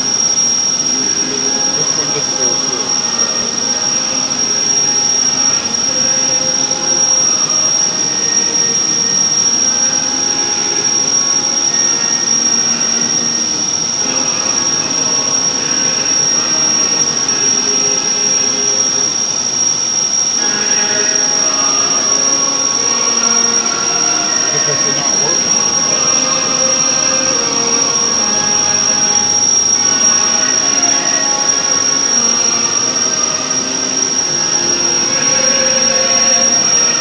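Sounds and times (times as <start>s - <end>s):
high-pitched whine: 0.0s - 37.0s.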